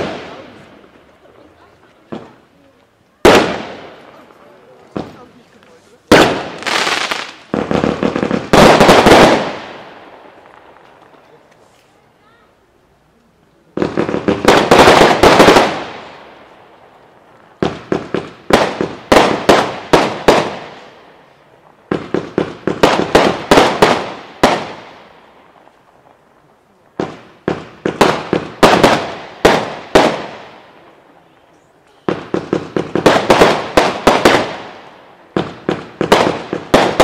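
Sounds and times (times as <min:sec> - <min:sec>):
fireworks banging: 0:00.0 - 0:12.4, 0:13.2 - 0:37.0
fireworks echo: 0:00.0 - 0:37.0.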